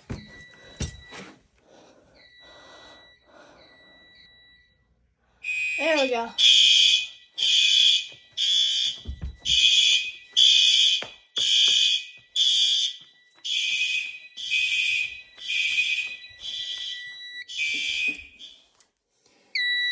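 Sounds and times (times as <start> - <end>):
fire alarm blaring: 0.0 - 18.8, 19.5 - 19.9.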